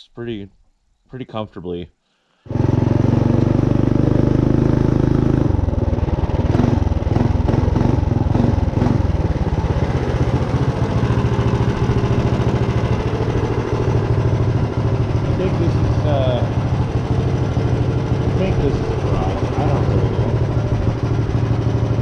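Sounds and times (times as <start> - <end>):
minibike engine running: 2.5 - 22.0.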